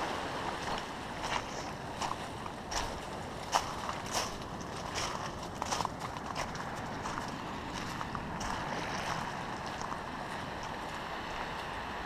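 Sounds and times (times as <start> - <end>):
faint footsteps on trail: 0.5 - 12.0.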